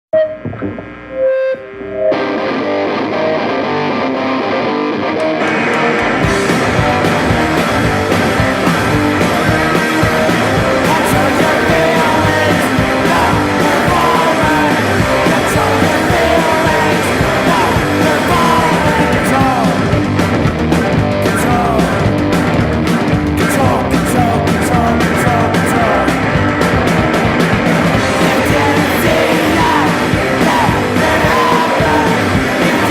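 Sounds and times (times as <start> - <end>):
electric guitar: 0.2 - 32.9
punk rock band playing: 2.0 - 32.9.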